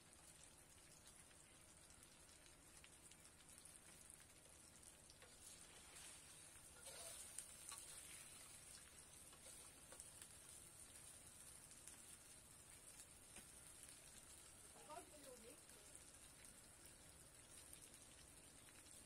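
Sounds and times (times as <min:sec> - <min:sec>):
food deep-frying in oil: 0:00.0 - 0:19.0
ladle stirring a pan: 0:01.0 - 0:19.0.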